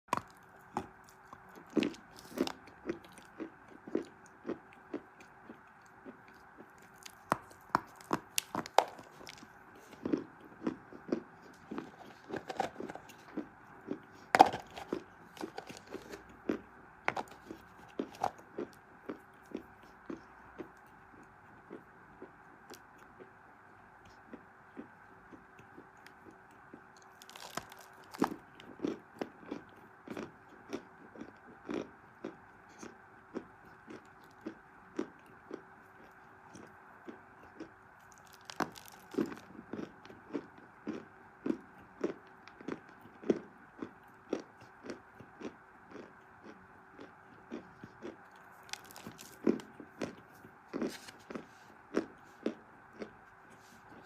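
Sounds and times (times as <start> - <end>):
faint steady hum: 0.0 - 54.0
chalk being chewed: 0.2 - 23.4, 24.0 - 54.0.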